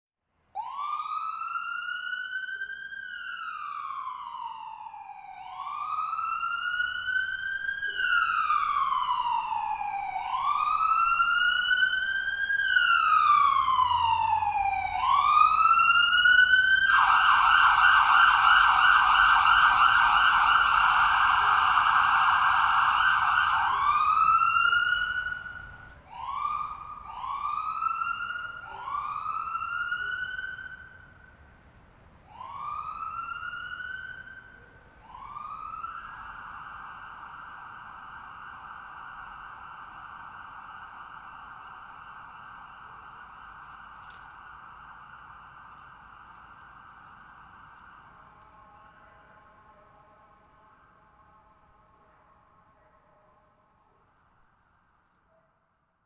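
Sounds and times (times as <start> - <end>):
police car siren: 0.5 - 54.8.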